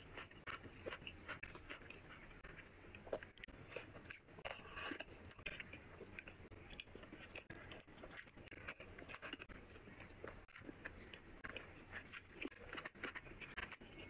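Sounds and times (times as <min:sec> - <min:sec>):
chewing with clicks and smacks: 0:00.0 - 0:14.0
fingers mixing rice on plate: 0:00.0 - 0:14.0.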